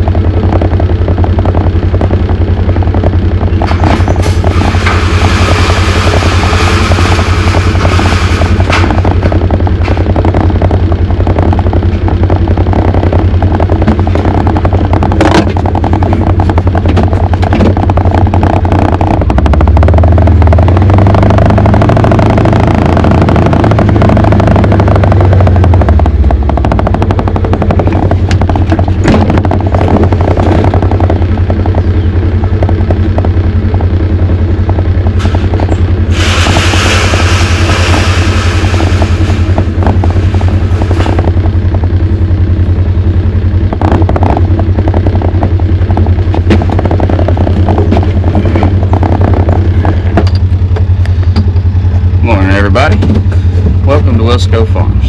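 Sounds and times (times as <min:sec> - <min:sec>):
vehicle engine pulsing: 0:00.0 - 0:55.0.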